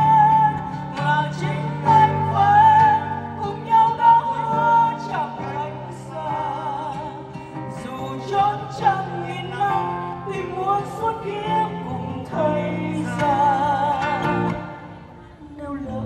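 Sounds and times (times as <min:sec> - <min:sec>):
woman singing with vibrato: 0:00.0 - 0:16.0.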